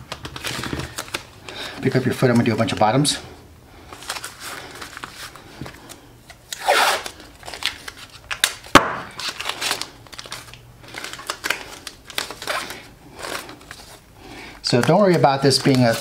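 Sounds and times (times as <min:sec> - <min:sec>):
tape rustling and crinkling: 0:00.0 - 0:02.6, 0:03.8 - 0:16.0.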